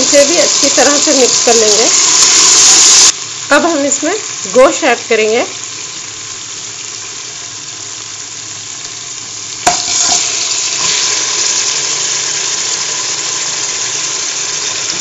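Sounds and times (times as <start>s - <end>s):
oil and onions sizzling: 0.0s - 15.0s.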